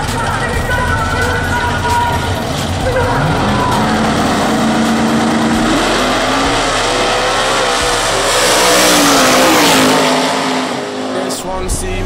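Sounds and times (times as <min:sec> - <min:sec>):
drag racing cars accelerating: 0:00.0 - 0:12.0.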